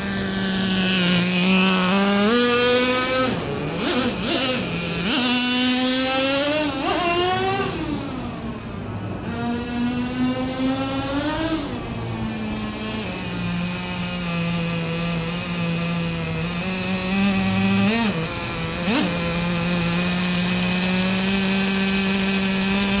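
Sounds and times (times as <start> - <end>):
nitro engine running: 0.0 - 23.0.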